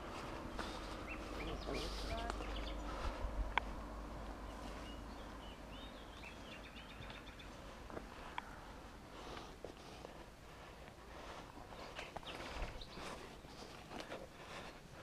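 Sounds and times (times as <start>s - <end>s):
footsteps through undergrowth: 0.0s - 15.0s
songbird chirping: 0.0s - 15.0s.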